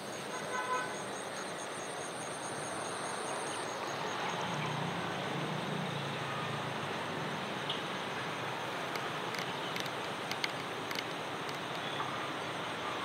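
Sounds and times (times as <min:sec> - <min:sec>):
outdoor traffic noise: 0:00.0 - 0:13.0.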